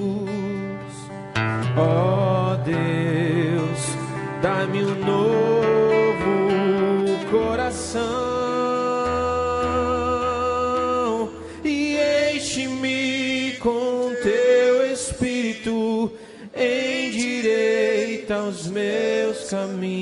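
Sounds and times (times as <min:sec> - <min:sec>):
person singing worship song: 0:00.0 - 0:20.0.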